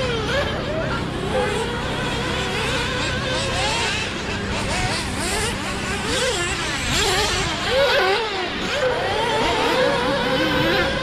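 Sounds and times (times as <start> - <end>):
racing engines revving: 0.0 - 11.0.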